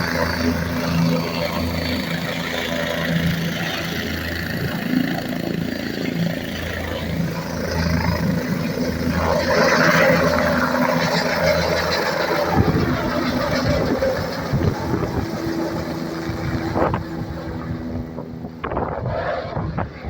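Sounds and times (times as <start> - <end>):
helicopter turbine and rotor running: 0.0 - 20.0.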